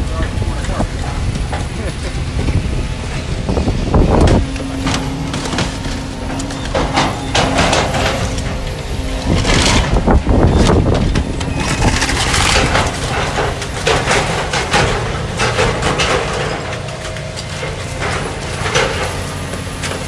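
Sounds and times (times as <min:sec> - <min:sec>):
excavator diesel engine: 0:00.0 - 0:20.0
metal crunching and clanking: 0:00.0 - 0:20.0.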